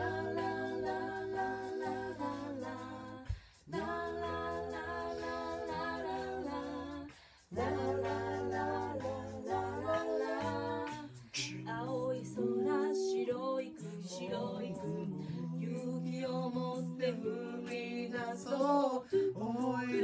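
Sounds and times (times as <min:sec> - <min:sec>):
wordless a cappella singing: 0:00.0 - 0:20.0.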